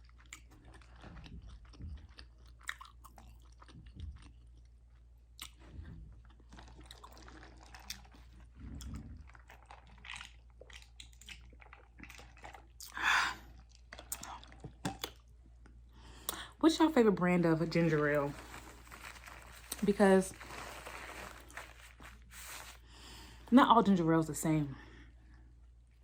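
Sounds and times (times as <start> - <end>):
wet chewing: 0.0 - 16.5, 17.5 - 23.3.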